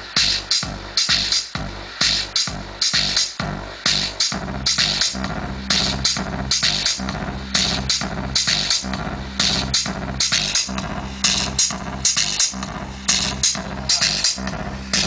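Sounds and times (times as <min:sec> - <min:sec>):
electronic dance music: 0:00.0 - 0:15.0
heavy bass line: 0:00.0 - 0:15.0.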